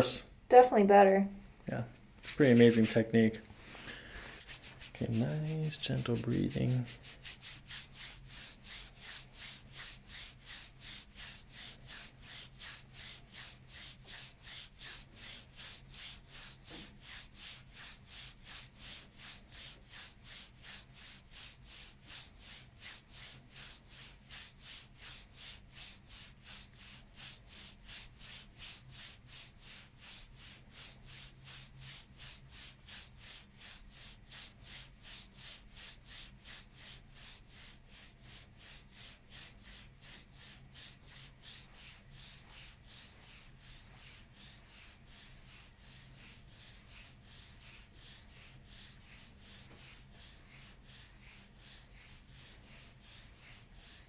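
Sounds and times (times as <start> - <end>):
hands rubbing on skin: 2.2 - 54.0.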